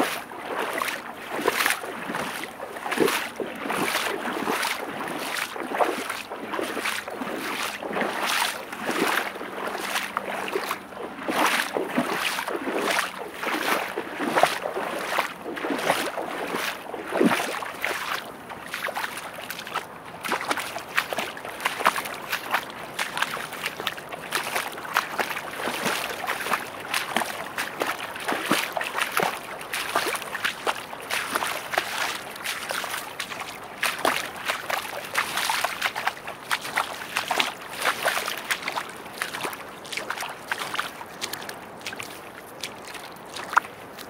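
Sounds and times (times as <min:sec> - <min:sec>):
legs splashing in water: 0:00.0 - 0:44.0
waves washing: 0:00.0 - 0:44.0.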